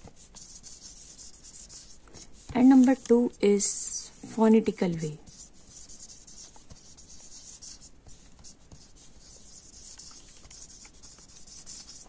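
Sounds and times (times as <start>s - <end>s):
marker pen scratching on paper: 0.0s - 4.1s, 5.0s - 12.0s.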